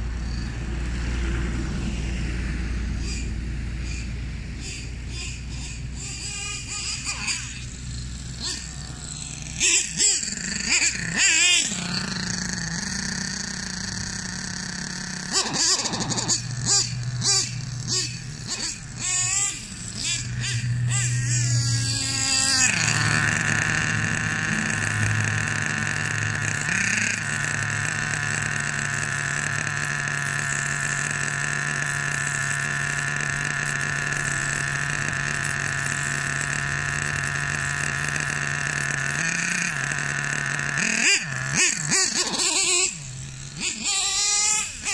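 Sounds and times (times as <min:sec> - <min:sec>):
model engine revving: 0:00.0 - 0:44.9.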